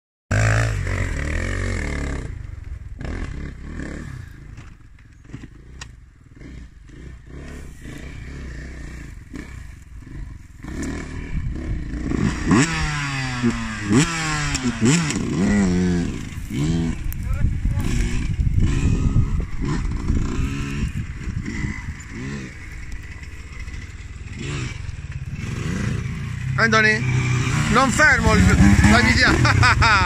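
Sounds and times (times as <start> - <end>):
motorcycle engine revving: 0.3 - 30.0.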